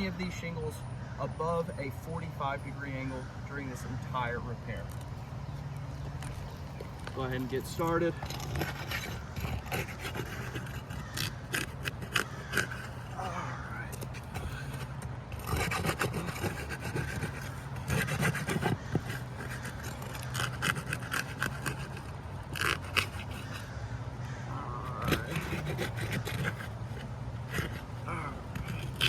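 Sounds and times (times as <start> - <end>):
pry bar scraping shingles: 4.8 - 29.0.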